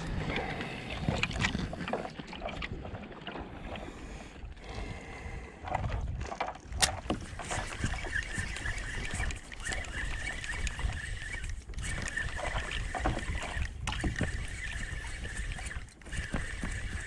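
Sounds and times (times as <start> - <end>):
water sloshing against hull: 0.0 - 17.0.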